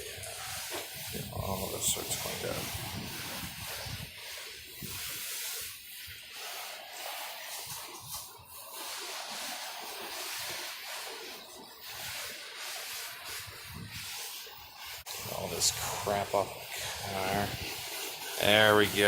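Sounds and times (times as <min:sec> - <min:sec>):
hose spray hissing on car: 0:00.0 - 0:19.0.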